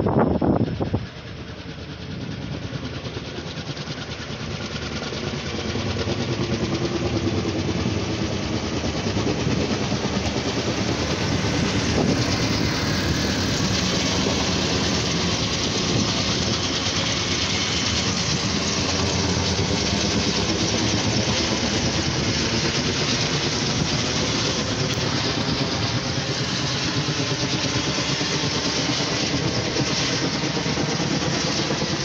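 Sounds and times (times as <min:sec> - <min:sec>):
helicopter rotor beat: 0:00.0 - 0:32.0.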